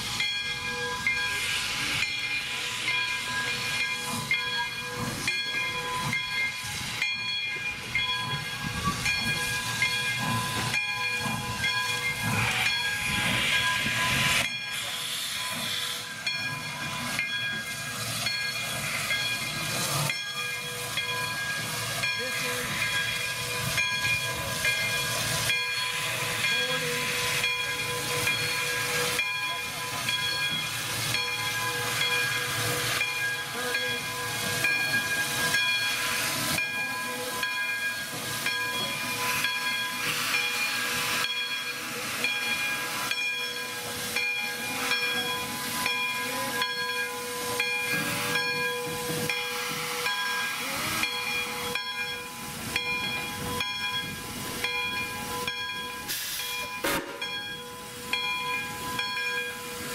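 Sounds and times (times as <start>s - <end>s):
soft locomotive beats: 0.0s - 59.9s
steam hissing: 0.0s - 59.9s.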